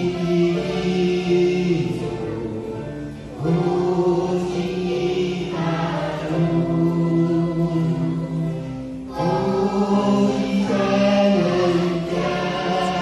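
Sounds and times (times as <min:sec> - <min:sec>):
children and women singing: 0:00.0 - 0:02.5, 0:03.4 - 0:13.0.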